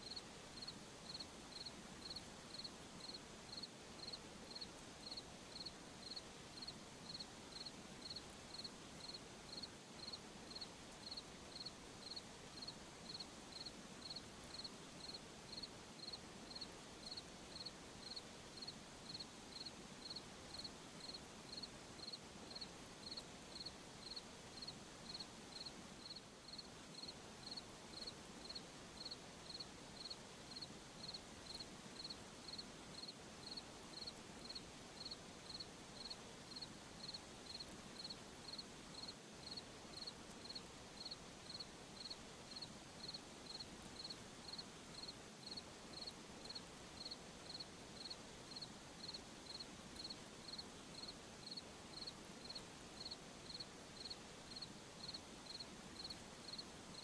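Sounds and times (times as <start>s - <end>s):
cricket chirping: 0.0s - 57.0s
faint night ambience hiss: 0.0s - 57.0s.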